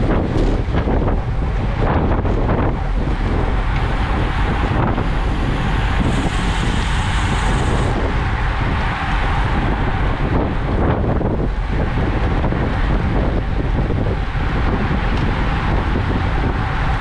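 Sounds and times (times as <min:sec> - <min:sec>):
tyre and road rumble: 0:00.0 - 0:17.0
wind buffeting microphone: 0:00.0 - 0:17.0.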